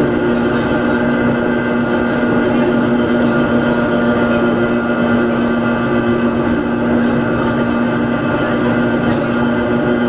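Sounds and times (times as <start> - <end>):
electric train motor hum: 0.0 - 10.0
wheel and rail noise: 0.0 - 10.0.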